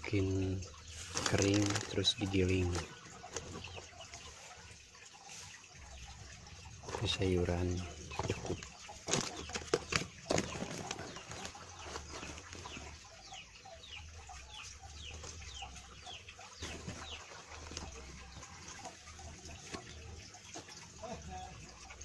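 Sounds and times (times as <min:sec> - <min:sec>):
chickens chirping: 0:00.1 - 0:22.0
chickens clucking: 0:00.1 - 0:22.0.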